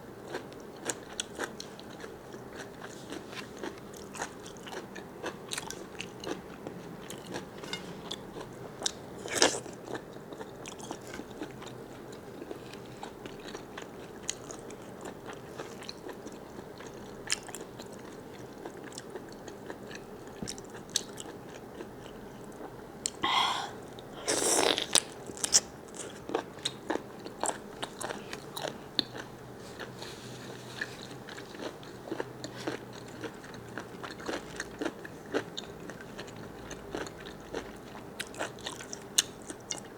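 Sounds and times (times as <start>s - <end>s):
person chewing squid: 0.3s - 39.9s.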